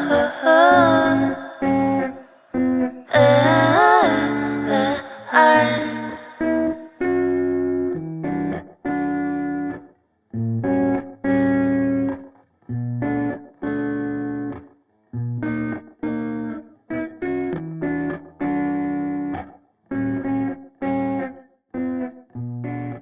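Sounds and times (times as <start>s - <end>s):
lofi guitar chords: 0.0s - 23.0s.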